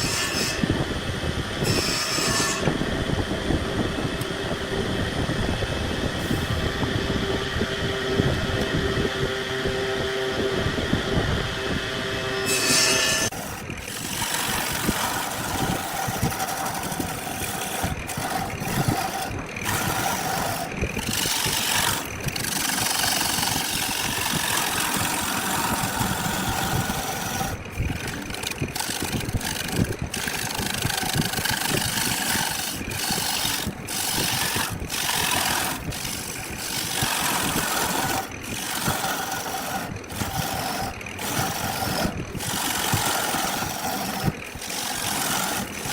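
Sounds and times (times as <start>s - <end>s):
wood lathe grinding: 0.0s - 45.9s.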